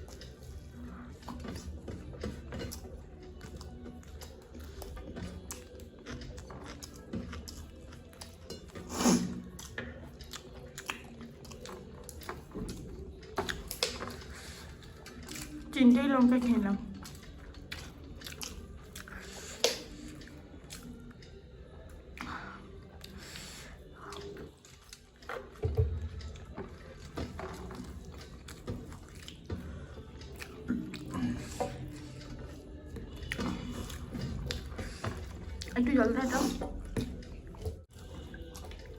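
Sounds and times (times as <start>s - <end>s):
chewing crisp food: 0.0s - 38.9s.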